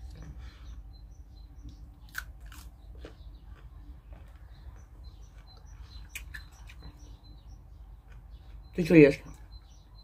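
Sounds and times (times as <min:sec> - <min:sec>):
quiet eating sounds: 0:00.0 - 0:10.0
small birds chirping: 0:00.0 - 0:10.0.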